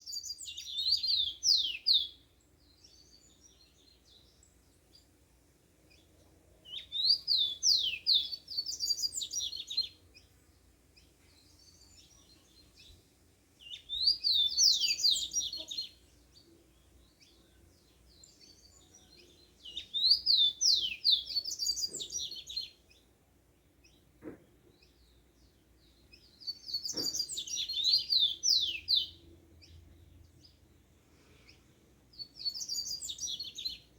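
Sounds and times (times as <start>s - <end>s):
bird twittering song: 0.0s - 5.2s, 5.8s - 33.9s.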